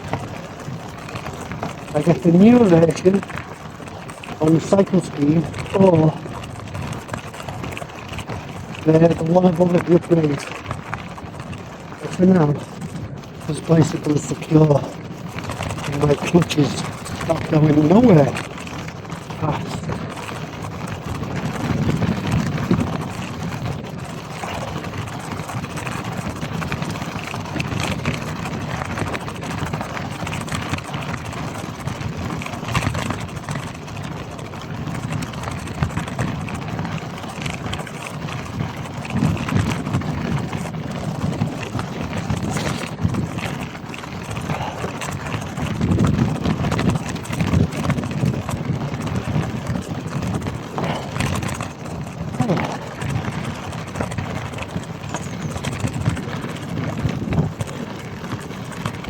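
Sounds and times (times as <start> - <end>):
bike rattles and knocks: 0.0 - 59.0
bike tyre noise on gravel: 0.0 - 59.0
wind rumbling on microphone: 0.0 - 59.0.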